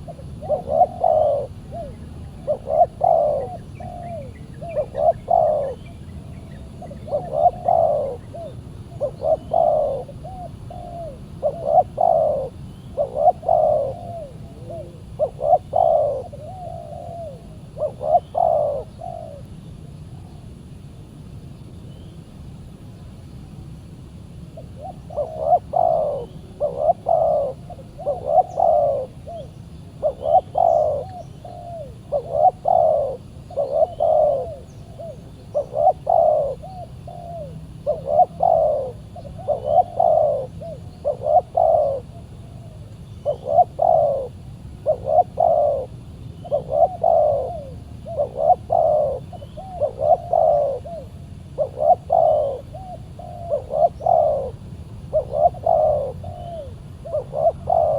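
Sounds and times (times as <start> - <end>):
dove cooing: 0.0 - 20.4, 24.5 - 57.9.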